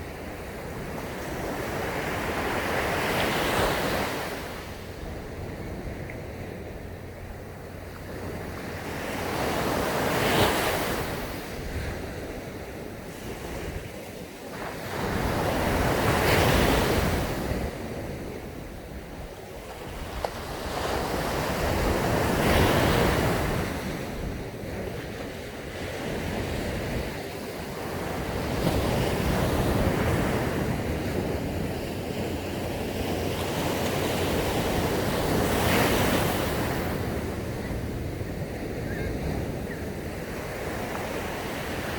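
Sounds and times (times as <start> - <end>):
waves breaking on a beach: 0.0 - 41.9
wind on the microphone: 0.0 - 41.9.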